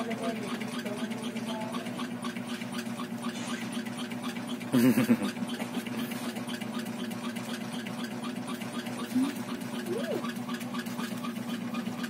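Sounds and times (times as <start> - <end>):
small motor humming: 0.0 - 12.0.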